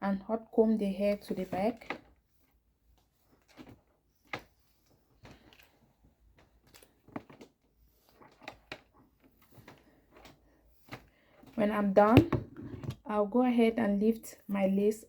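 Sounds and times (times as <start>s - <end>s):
comb rustling through hair: 0.9s - 13.1s.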